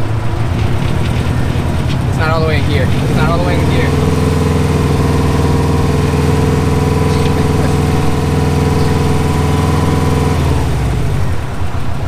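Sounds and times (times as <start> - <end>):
car engine running above idle: 0.0 - 12.0.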